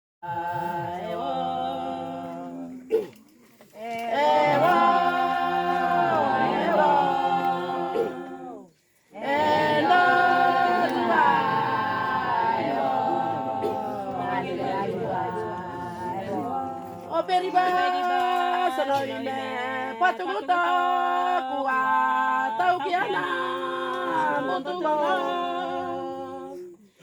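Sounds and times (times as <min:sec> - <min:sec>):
women singing a hymn a cappella: 0:00.2 - 0:03.0, 0:03.7 - 0:26.9.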